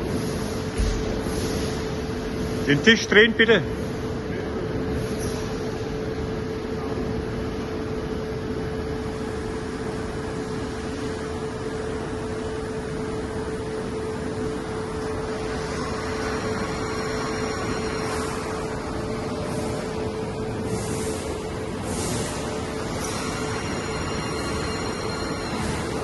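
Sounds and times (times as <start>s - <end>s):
milling machine mechanical hum: 0.0s - 26.0s
constant mid-pitched tone: 0.4s - 26.0s
faint high whining tones: 4.3s - 26.0s.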